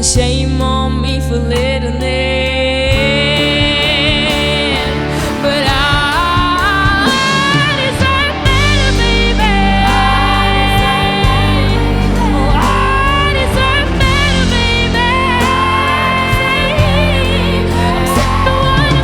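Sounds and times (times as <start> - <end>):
live rock band music: 0.0 - 19.0.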